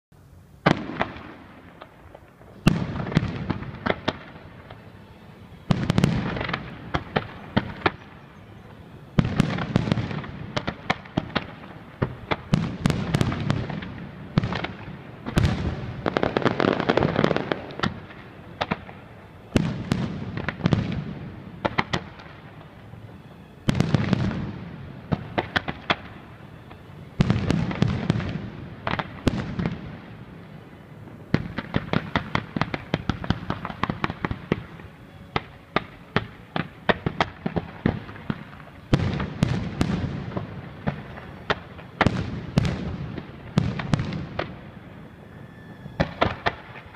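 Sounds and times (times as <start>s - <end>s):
firework crackling: 0.6s - 46.9s.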